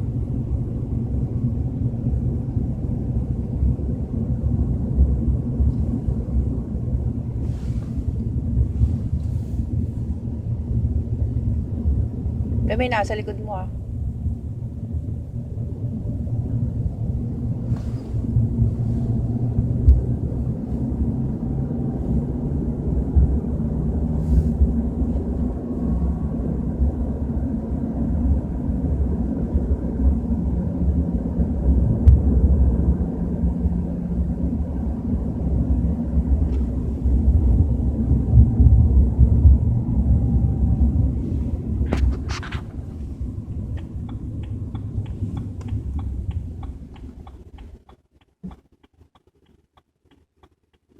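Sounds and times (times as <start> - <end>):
low rumble: 0.0 - 50.9
tyre and engine noise: 0.0 - 50.9.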